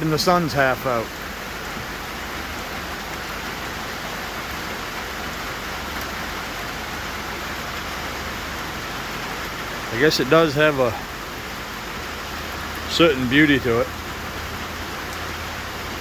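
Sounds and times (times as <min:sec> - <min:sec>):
hard rain on a tin roof: 0:00.0 - 0:16.0.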